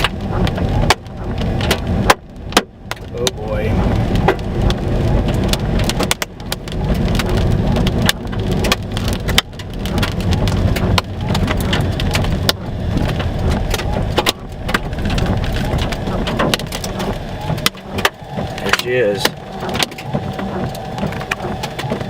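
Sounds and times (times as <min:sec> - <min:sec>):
heavy rain drops tapping: 0:00.0 - 0:22.0
strong low rumble: 0:00.0 - 0:22.0.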